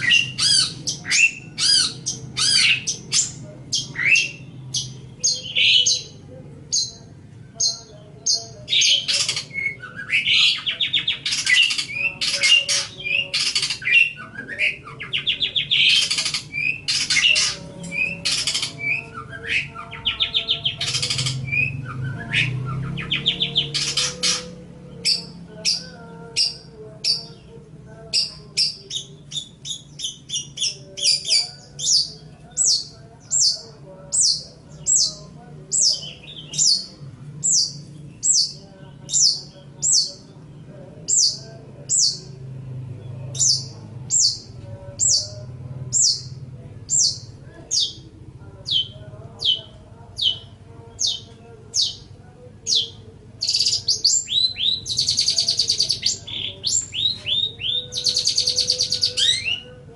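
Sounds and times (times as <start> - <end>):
shrike singing harsh chattering song: 0.0 - 59.9.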